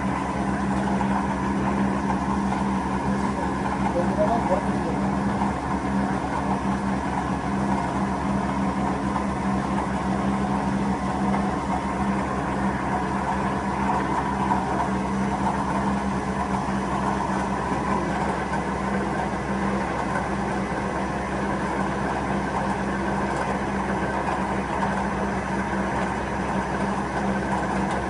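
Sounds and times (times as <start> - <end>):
lathe machine hum: 0.0 - 28.0.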